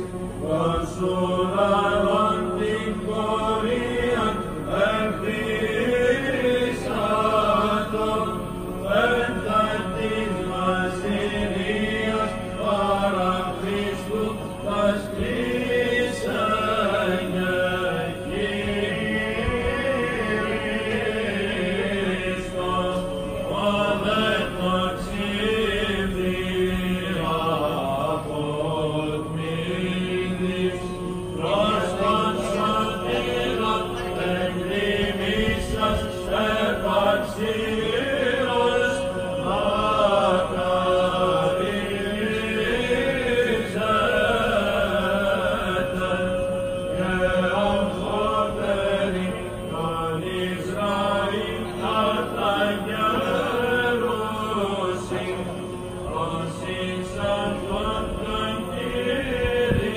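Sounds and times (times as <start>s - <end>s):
chant singing: 0.0s - 59.9s
long-held drone note: 0.0s - 59.9s.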